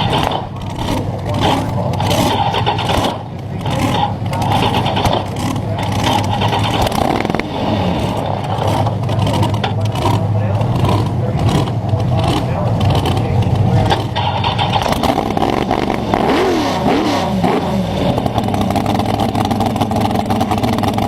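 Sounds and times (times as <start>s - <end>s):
dragster engine running: 0.0s - 21.0s.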